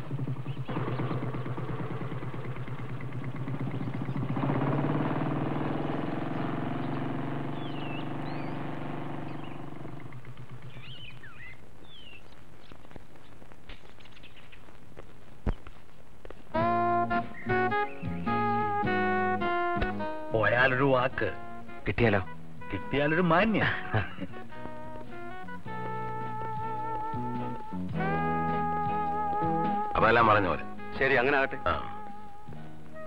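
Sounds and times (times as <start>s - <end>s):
motorcycle engine running: 0.0s - 14.3s, 16.5s - 33.0s
birds chirping: 0.0s - 33.0s.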